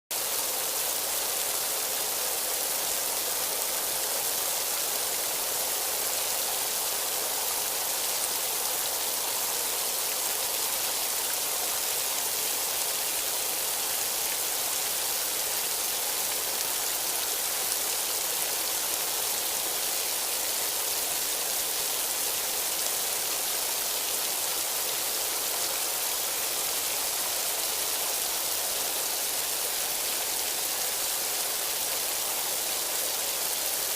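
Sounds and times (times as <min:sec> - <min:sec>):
steady rain hiss: 0:00.1 - 0:33.9.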